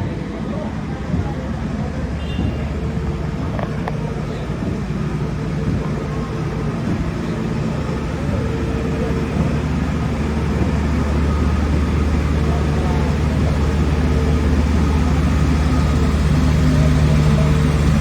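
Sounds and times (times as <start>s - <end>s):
paving machine engine hum: 0.0s - 18.0s.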